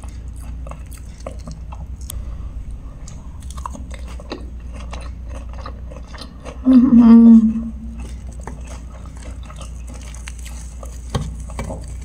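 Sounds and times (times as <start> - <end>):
person chewing: 0.0 - 2.2, 3.0 - 12.0
steady low hum: 0.0 - 12.0.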